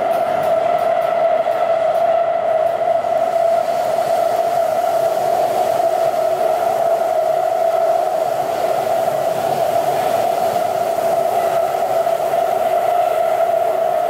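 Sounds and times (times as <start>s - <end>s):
subway train hum: 0.0s - 14.0s.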